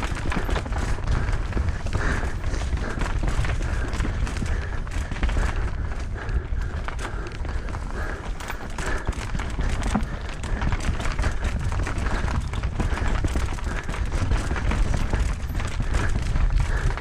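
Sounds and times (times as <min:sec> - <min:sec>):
bike rattling over bumps: 0:00.0 - 0:17.0
tyres on dirt and rock: 0:00.0 - 0:17.0
wind rumble on microphone: 0:00.0 - 0:17.0.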